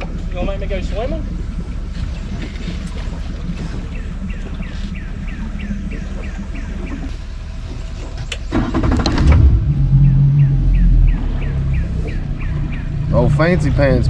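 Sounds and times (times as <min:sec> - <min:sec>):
outboard motor starting and idling: 0:00.0 - 0:14.0.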